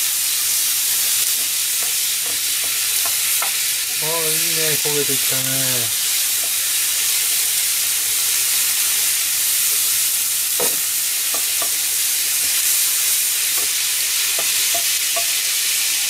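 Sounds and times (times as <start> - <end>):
meat sizzling in a frying pan: 0.0 - 16.0.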